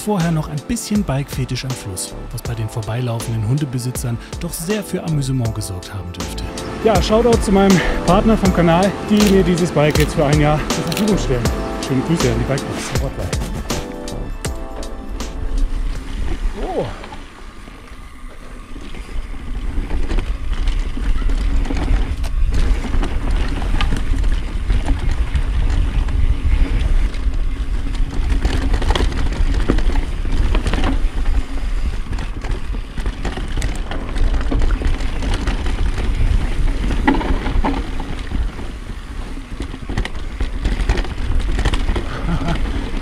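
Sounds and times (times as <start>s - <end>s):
bike clicks and rattles: 0.0s - 43.0s
tyres rolling over dirt: 0.0s - 43.0s.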